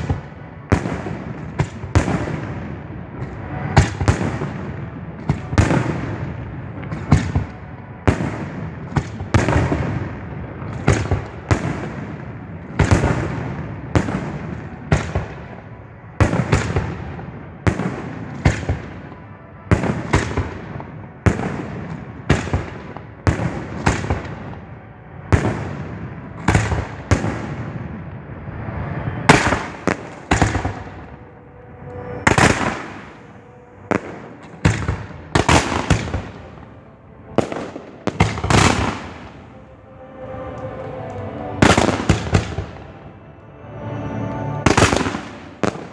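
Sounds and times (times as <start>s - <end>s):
fireworks booming: 0.0s - 24.7s, 29.1s - 31.4s, 32.0s - 39.6s, 41.0s - 43.0s, 44.6s - 45.9s.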